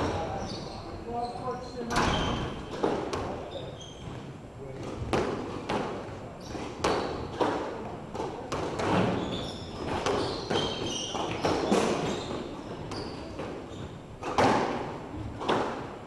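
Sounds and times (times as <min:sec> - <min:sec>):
shoes squeaking on wooden floor: 0:00.0 - 0:05.7, 0:06.3 - 0:15.6.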